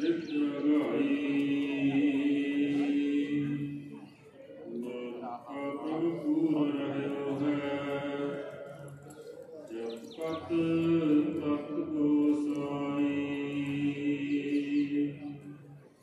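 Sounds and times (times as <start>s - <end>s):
hymn singing over loudspeakers: 0.0s - 16.0s.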